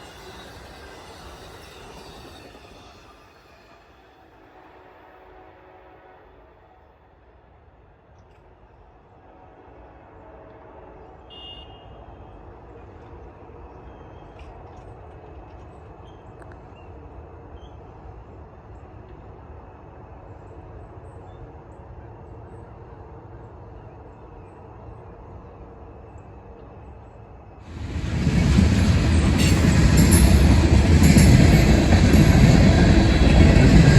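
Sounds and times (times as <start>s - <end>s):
distant train rumble: 0.0s - 33.9s.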